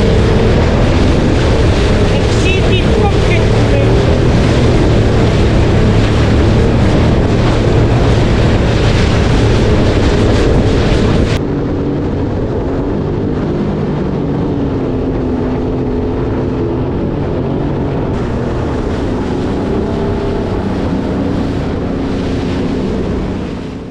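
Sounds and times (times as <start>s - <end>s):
jet ski engine: 0.0s - 23.9s
wind and water rushing: 0.0s - 23.9s.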